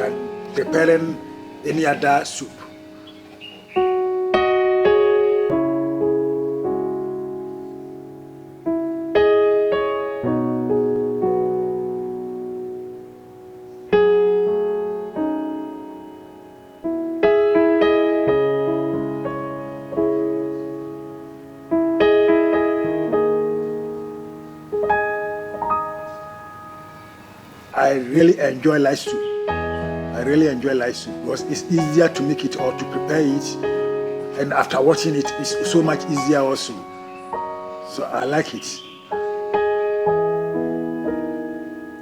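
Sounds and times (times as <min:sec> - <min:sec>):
slow piano music: 0:00.0 - 0:42.0.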